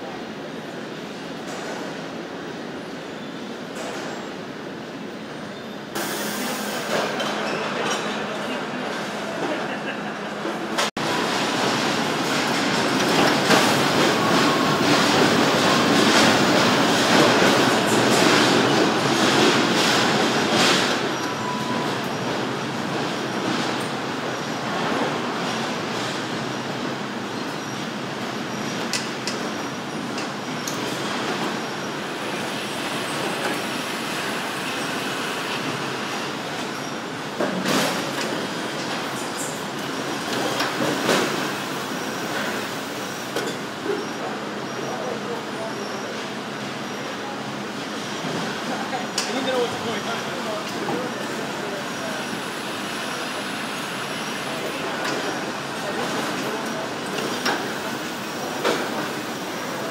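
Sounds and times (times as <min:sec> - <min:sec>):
conveyors rattling and squealing: 0:05.3 - 0:59.9.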